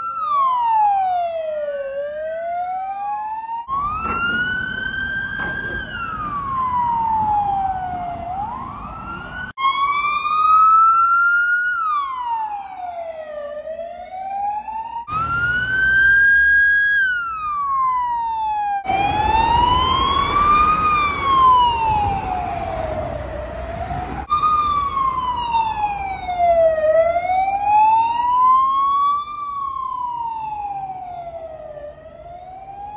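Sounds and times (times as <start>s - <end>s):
ambulance siren wailing: 0.0s - 32.9s.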